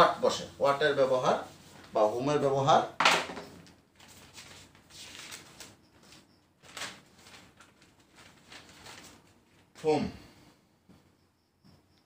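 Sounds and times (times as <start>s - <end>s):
faint rustling and scraping: 0.3s - 2.6s, 3.4s - 11.9s.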